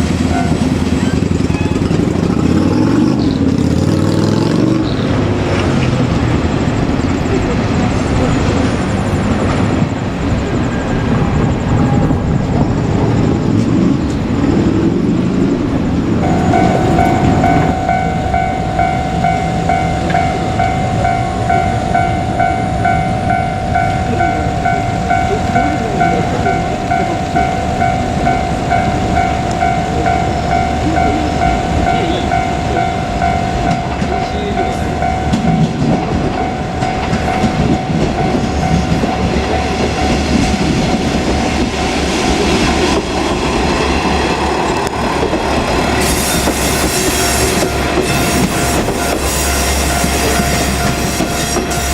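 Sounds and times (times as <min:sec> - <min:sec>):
diesel railcar rumble: 0:00.0 - 0:51.9
level crossing warning bell: 0:00.0 - 0:51.9.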